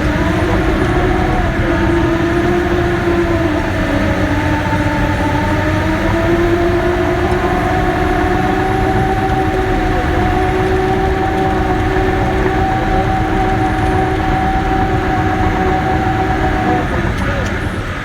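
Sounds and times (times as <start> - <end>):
bulldozer engine rumble: 0.0 - 18.0
whining tone: 0.0 - 18.0.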